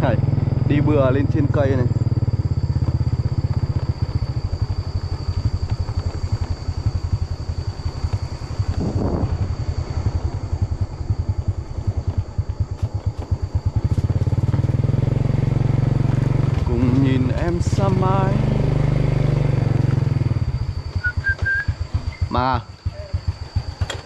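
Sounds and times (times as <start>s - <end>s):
high-pitched whine: 0.0s - 24.0s
small motorbike engine running: 0.0s - 24.0s.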